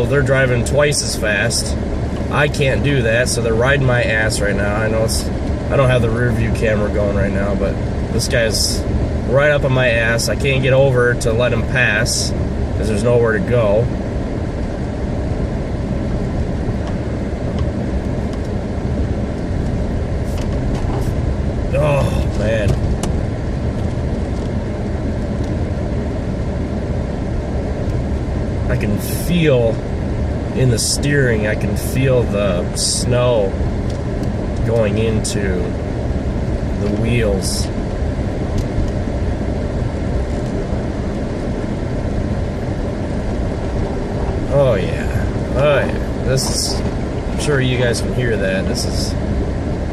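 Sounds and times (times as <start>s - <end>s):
car engine and tyre rumble in snow: 0.0s - 49.9s.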